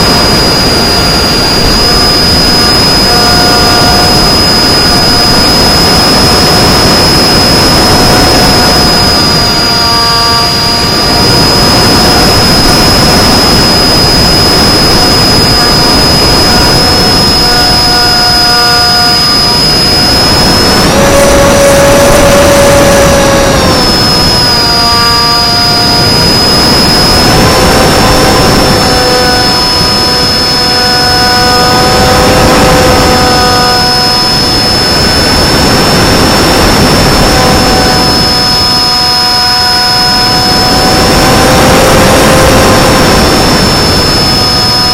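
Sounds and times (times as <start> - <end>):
electric motor and propeller whining: 0.0 - 44.9
wind noise: 0.0 - 44.9.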